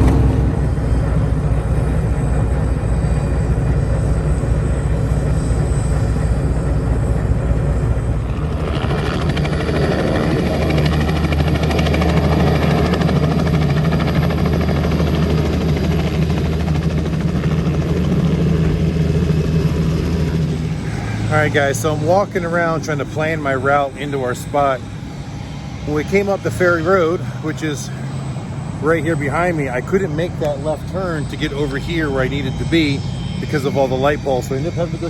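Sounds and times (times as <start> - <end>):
heavy engine droning: 0.0 - 35.0.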